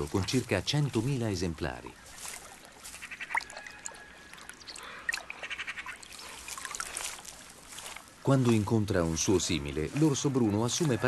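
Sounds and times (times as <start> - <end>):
birds chirping and trilling: 0.0 - 11.0
bear lapping water: 2.0 - 11.0.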